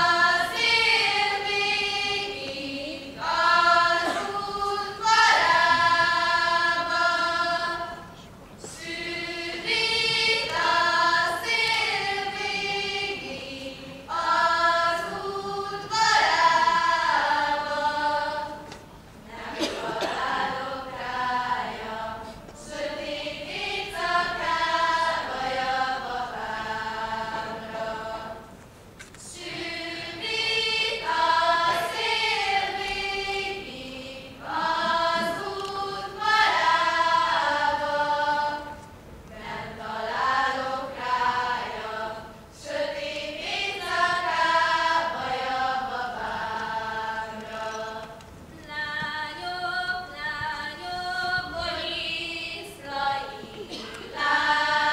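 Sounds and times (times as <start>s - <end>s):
women singing folk song: 0.0s - 28.5s, 29.2s - 54.9s.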